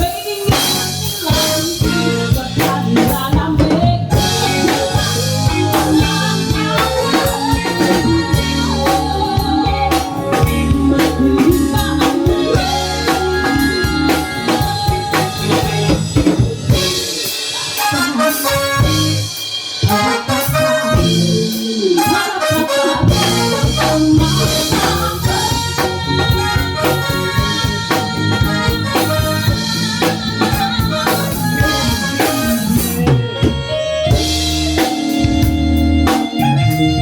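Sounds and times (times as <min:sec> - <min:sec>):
drum kit beat: 0:00.0 - 0:37.0
live band playing pop: 0:00.0 - 0:37.0.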